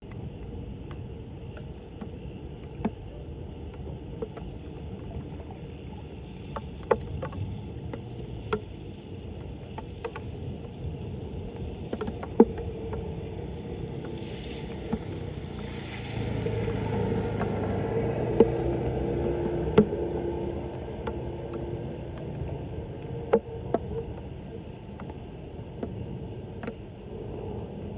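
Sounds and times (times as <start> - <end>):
floodwater sloshing and running: 0.4 - 27.4.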